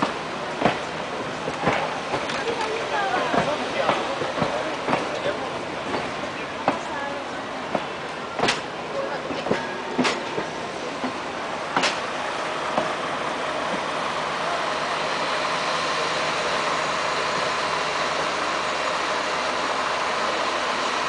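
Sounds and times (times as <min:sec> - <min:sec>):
train hiss and hum: 0:00.0 - 0:21.0.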